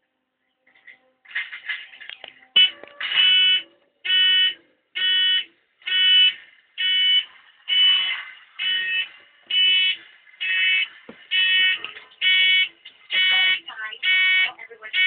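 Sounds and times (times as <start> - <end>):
electronic alarm buzzer beeping: 2.6 - 15.0.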